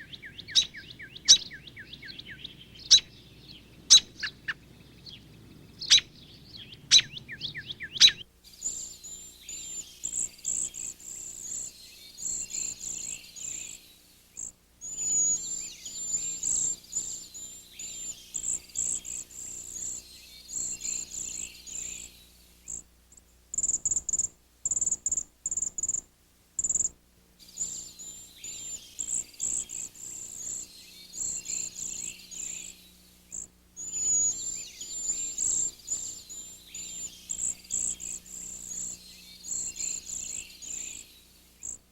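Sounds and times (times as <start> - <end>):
songbirds chirping chorus: 0.0 - 24.8, 26.6 - 41.9.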